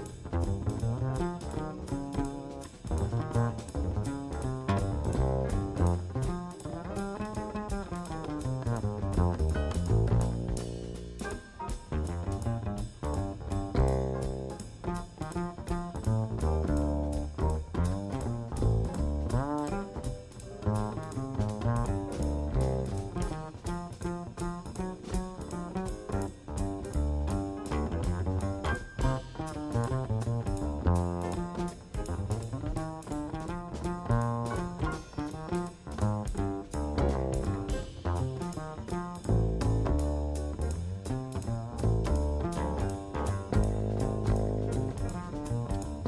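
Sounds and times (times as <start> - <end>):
double bass: 0.0 - 46.0
drum kit: 0.0 - 46.0
jazz piano solo: 0.0 - 46.0.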